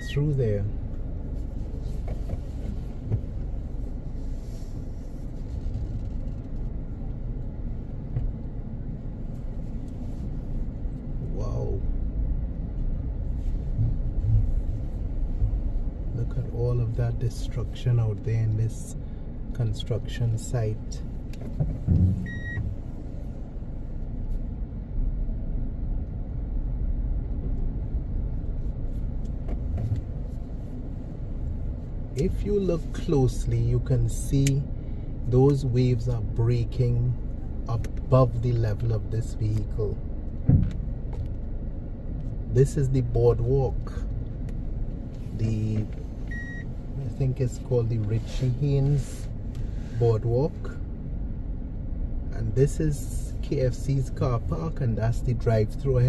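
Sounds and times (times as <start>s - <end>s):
car engine running: 0.0s - 56.0s
road noise: 0.0s - 56.0s.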